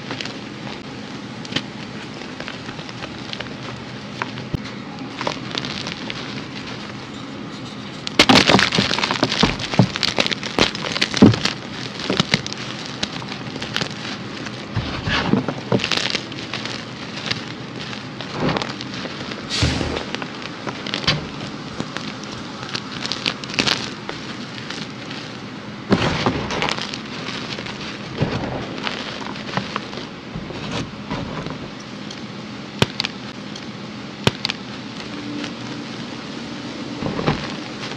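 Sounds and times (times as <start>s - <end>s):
hands crushing chalk: 0.0s - 32.2s, 32.8s - 35.7s.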